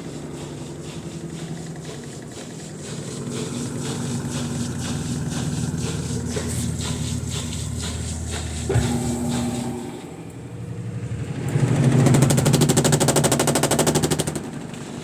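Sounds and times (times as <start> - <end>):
rapid knocking rattle: 0.0 - 15.0
washing machine spin hum: 0.0 - 15.0.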